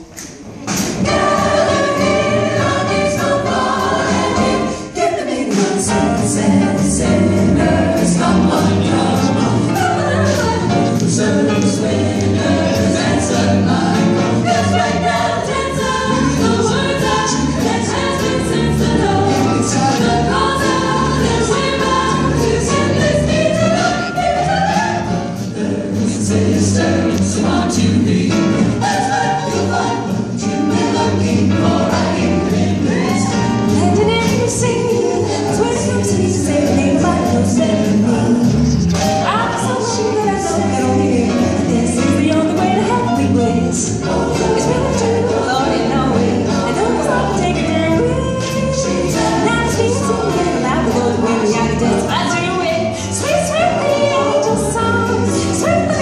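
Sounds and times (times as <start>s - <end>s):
vocal ensemble singing in harmony: 0.0s - 56.0s
upright bass: 5.9s - 56.0s.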